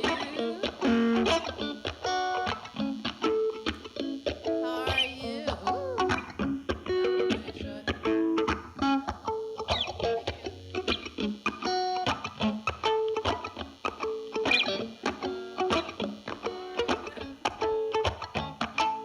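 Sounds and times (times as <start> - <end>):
plucked guitar notes: 0.0 - 19.0.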